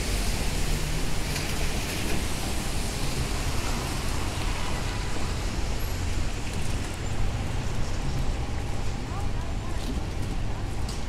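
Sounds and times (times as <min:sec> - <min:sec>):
tyres hissing on wet road: 0:00.0 - 0:08.9.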